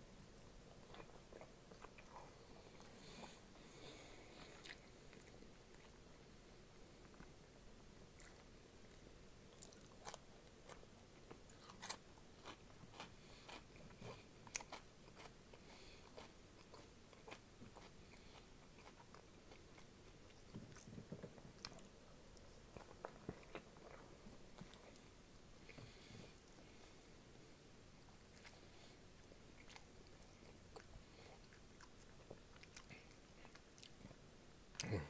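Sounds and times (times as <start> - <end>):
close chewing: 0.2 - 6.0, 8.1 - 26.8, 28.2 - 34.2.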